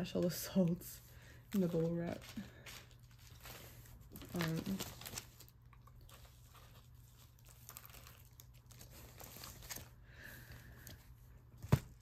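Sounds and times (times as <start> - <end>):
packaging rustling and crinkling: 1.5 - 12.0.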